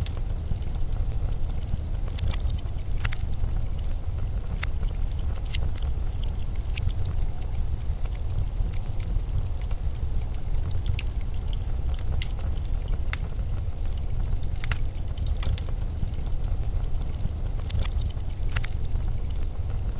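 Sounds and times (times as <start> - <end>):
sharp crackles and ticks: 0.0 - 19.9.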